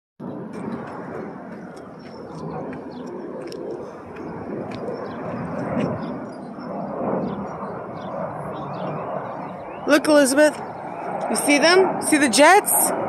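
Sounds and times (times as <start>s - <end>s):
jet engine rushing overhead: 0.2s - 13.0s.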